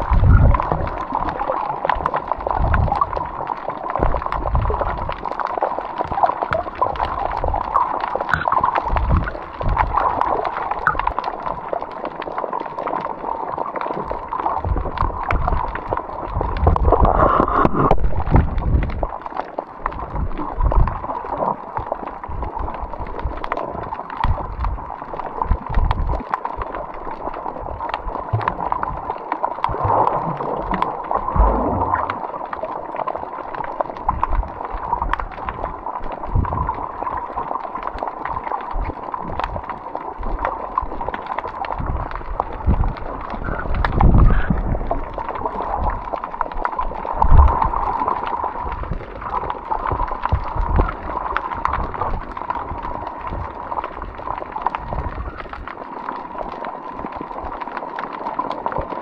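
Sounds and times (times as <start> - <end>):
water sloshing and gurgling: 0.0 - 59.0.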